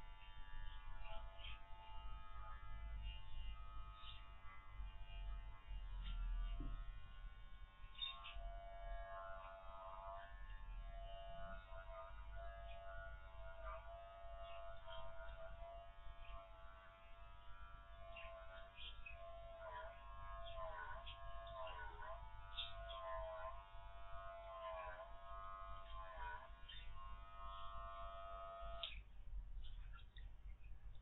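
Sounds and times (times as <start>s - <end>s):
electric clippers humming: 0.0s - 29.1s.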